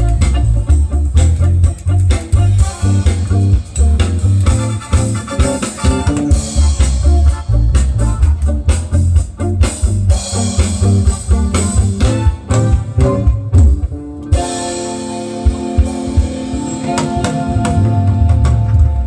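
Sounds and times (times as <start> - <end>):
loud band music: 0.0 - 19.0.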